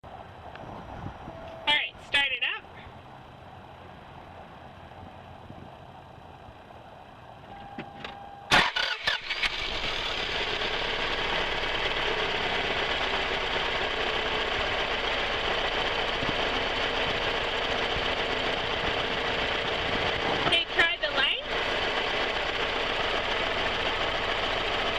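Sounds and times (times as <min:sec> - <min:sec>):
car engine cranking and idling: 0:02.7 - 0:24.9.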